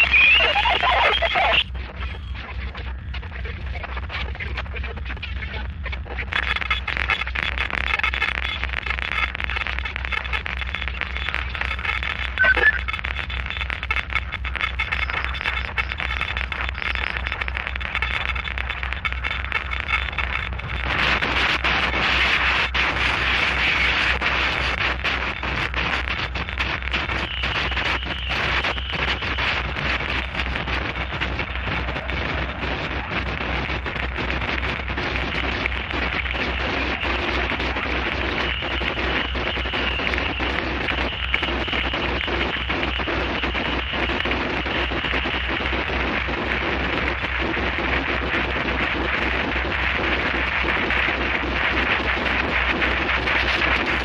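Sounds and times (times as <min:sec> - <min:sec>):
distorted noise wall: 0:00.0 - 0:54.0
low pulsing hum: 0:00.0 - 0:54.0.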